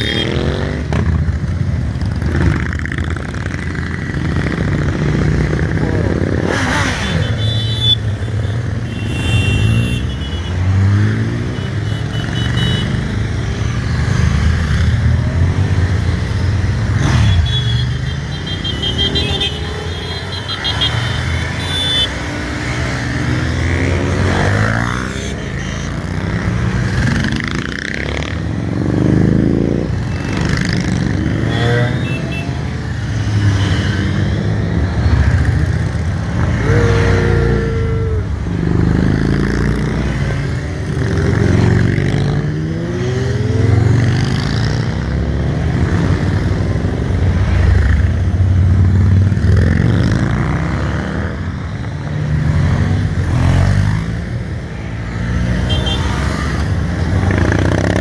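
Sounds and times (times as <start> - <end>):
motorcycles riding past: 0.0 - 58.0.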